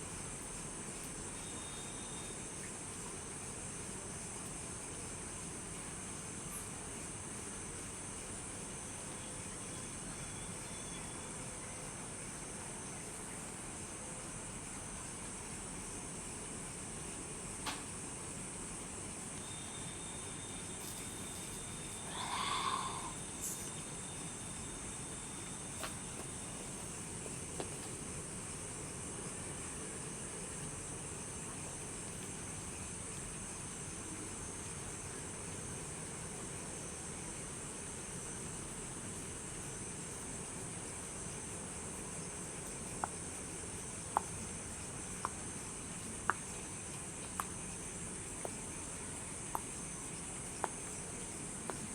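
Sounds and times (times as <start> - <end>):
crickets chirring: 0.0 - 51.9
soft hiss: 0.0 - 51.9.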